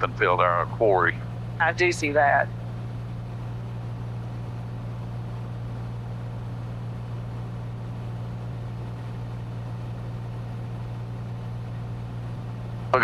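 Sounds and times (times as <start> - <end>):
aircraft engine droning in cabin: 0.0 - 13.0.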